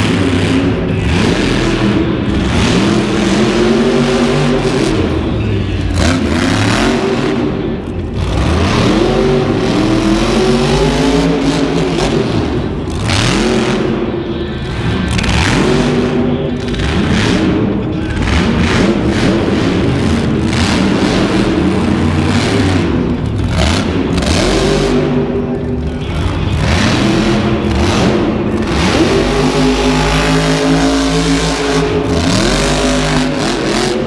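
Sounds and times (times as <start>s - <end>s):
low engine rumble: 0.0s - 34.0s
truck engine revving hard: 0.0s - 34.0s.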